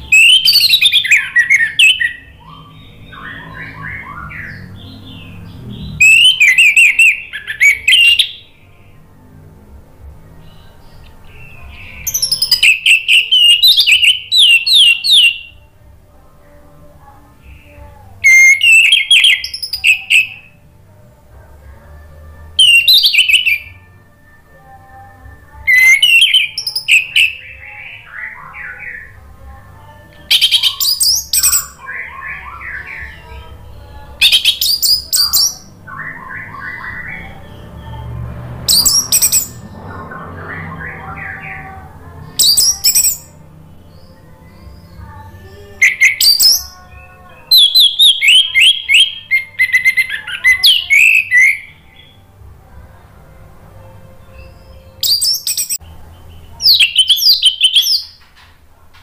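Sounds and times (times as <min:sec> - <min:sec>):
bird singing warbled phrases: 0:00.0 - 0:09.1, 0:10.3 - 0:20.6, 0:21.2 - 0:53.1, 0:53.8 - 0:59.0.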